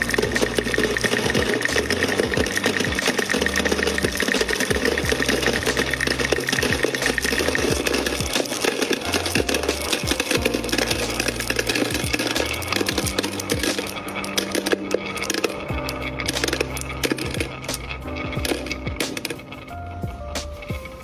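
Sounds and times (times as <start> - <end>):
background music bass line: 0.0 - 21.0
small machine running with rapid clicking: 0.0 - 21.0.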